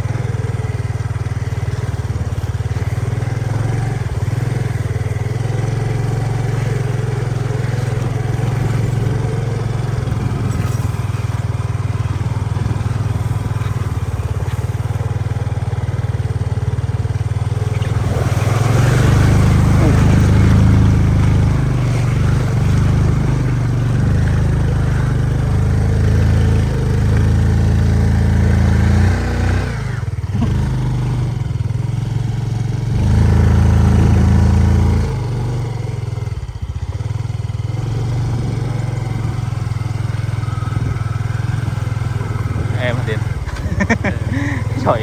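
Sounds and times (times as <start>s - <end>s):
motorbike engine running: 0.0s - 45.0s.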